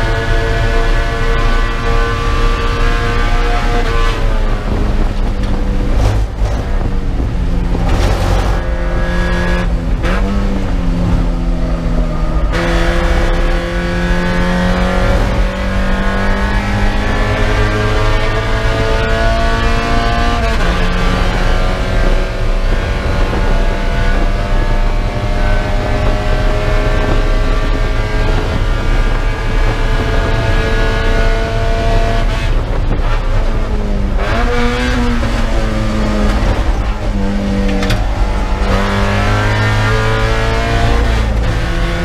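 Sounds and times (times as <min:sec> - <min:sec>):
race car engine at full throttle: 0:00.0 - 0:42.0.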